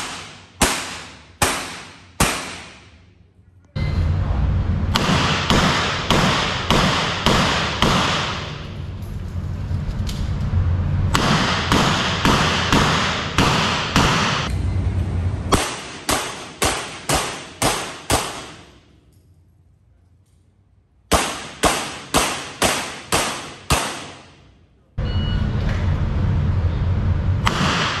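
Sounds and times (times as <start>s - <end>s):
revolver shots echoing indoors: 0.0s - 24.8s, 25.7s - 28.0s.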